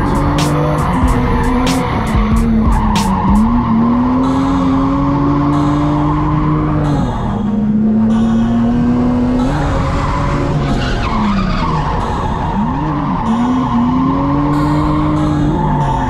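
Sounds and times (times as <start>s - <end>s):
car engine revving high: 0.0s - 16.0s
tires squealing: 0.0s - 16.0s.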